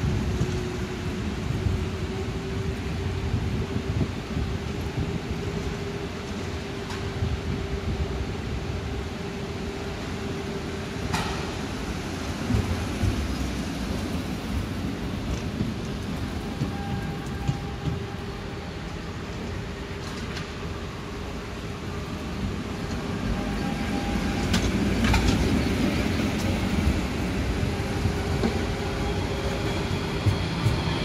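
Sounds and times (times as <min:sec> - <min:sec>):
tram rumbling on track: 0:00.0 - 0:31.0.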